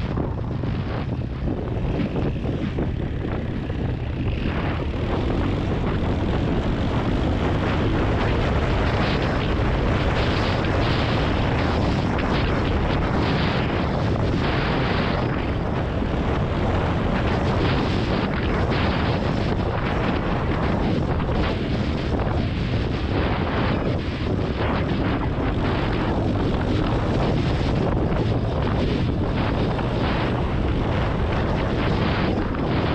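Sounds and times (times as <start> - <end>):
dirt bike engine running: 0.0 - 32.9
wind rumble on microphone: 0.0 - 32.9.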